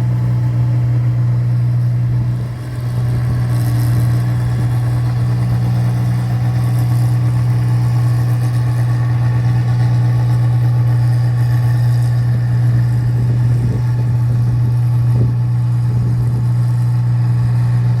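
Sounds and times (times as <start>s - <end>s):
machine engine humming: 0.0s - 18.0s.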